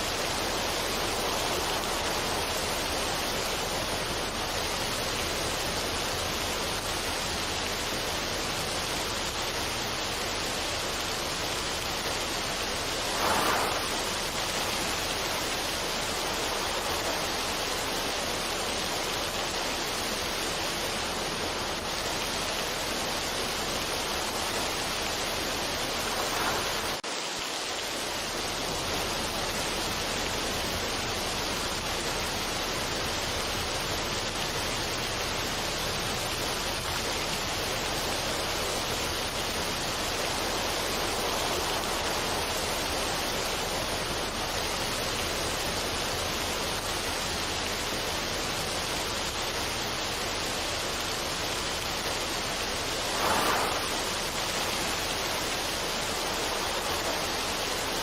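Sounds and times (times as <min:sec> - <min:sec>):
water-like rushing ambience: 0:00.0 - 0:58.0.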